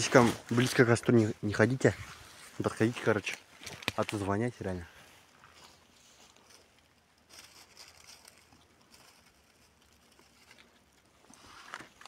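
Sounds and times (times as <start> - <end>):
faint crackling and rustling: 0.0 - 12.0.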